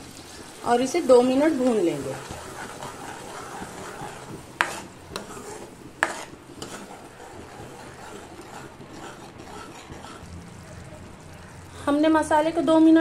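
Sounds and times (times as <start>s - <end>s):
spoon stirring frying paste: 0.0s - 13.0s.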